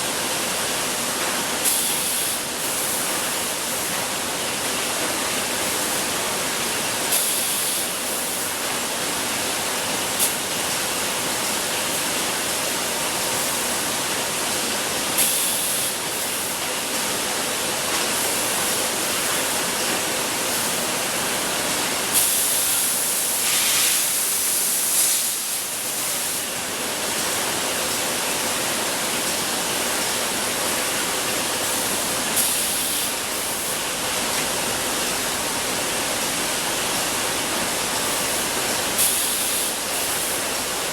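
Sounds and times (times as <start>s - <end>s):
production line machinery running: 0.1s - 40.9s.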